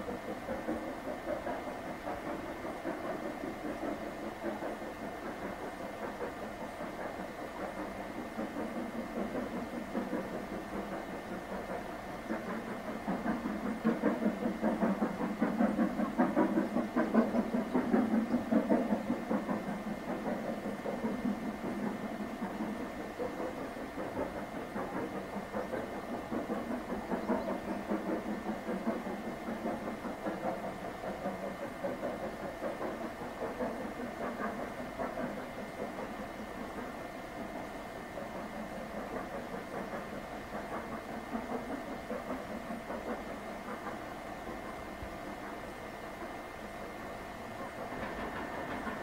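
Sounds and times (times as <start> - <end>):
distant steam locomotive exhaust beats: 0.0 - 49.0.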